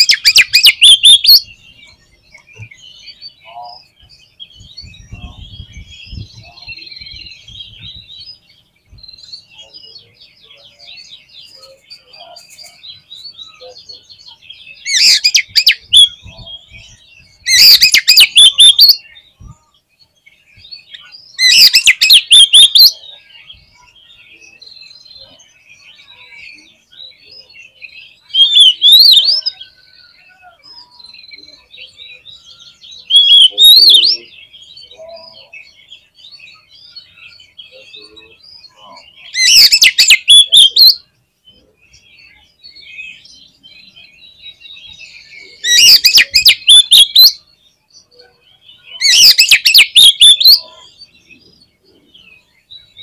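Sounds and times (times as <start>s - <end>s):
bird singing chirps and whistles: 0.0s - 53.0s.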